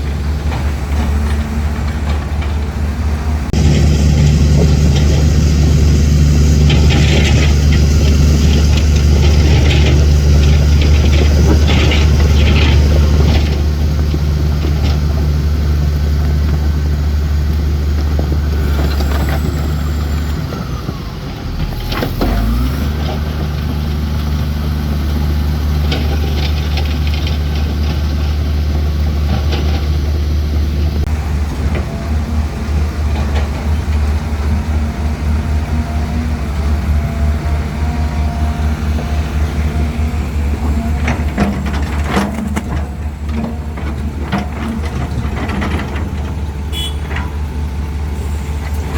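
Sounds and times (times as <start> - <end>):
diesel machinery running: 0.0 - 48.9.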